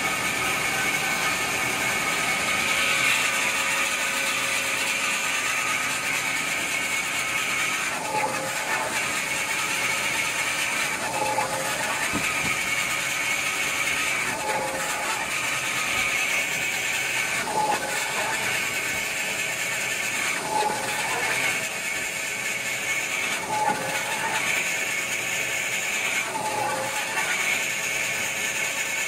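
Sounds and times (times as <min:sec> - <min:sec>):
band saw machine running: 0:00.0 - 0:29.0
blade cutting through paper: 0:00.0 - 0:29.0.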